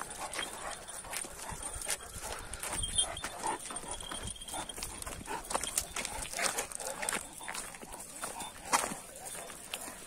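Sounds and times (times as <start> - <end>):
footsteps: 0.0 - 10.0
heavy chains clinking: 0.0 - 10.0.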